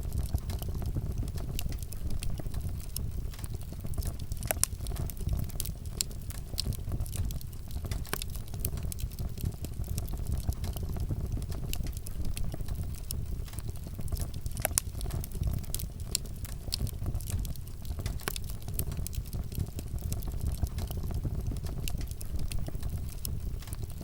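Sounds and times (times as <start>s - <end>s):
fire flame rumble: 0.0s - 24.0s
wood crackling and popping: 0.0s - 24.0s.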